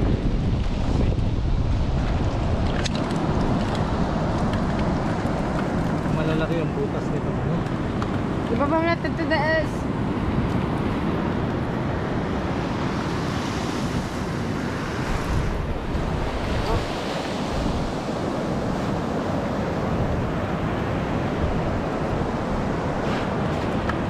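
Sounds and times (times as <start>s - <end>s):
ocean waves washing ashore: 0.0s - 24.0s
wind on microphone: 0.0s - 24.0s.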